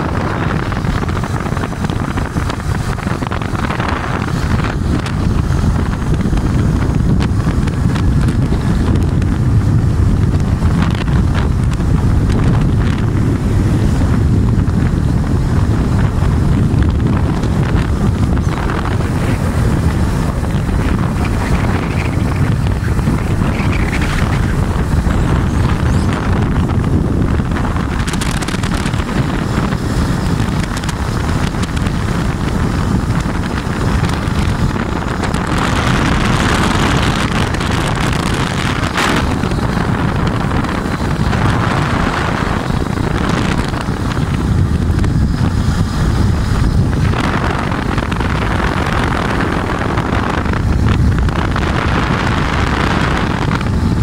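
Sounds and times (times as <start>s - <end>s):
motorcycle running noise: 0.0s - 54.0s
wind buffeting microphone: 0.0s - 54.0s.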